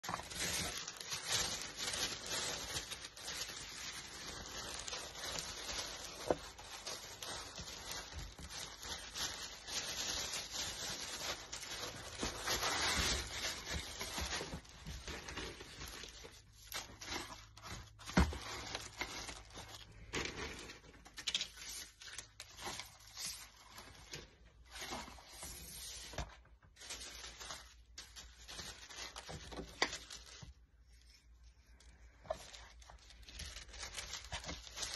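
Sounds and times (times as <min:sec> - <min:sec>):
tissue paper rustling: 0:00.0 - 0:34.9.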